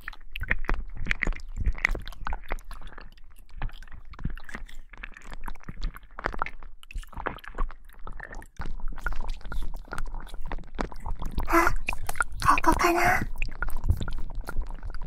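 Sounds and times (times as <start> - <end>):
slime squelching: 0.0 - 15.0.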